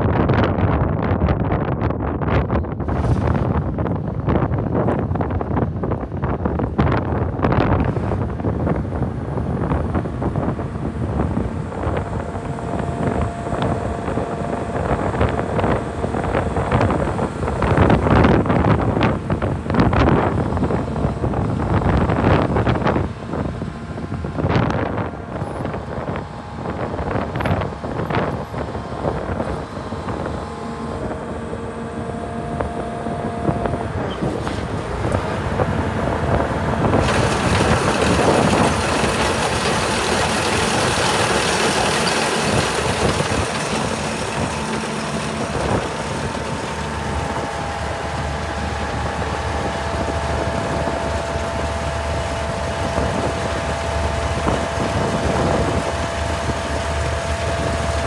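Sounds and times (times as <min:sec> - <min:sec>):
combine diesel engine running: 0:00.0 - 0:58.0
wind gusting on microphone: 0:00.0 - 0:58.0.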